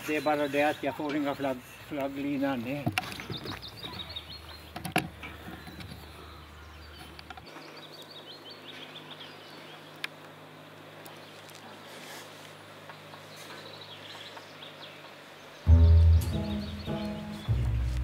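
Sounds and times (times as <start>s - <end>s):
songbird chirping: 0.0s - 12.0s, 12.6s - 18.0s.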